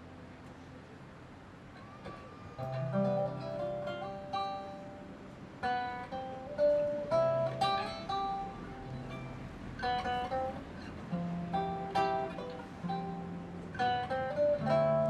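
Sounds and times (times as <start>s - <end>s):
acoustic guitars playing: 1.7s - 15.0s.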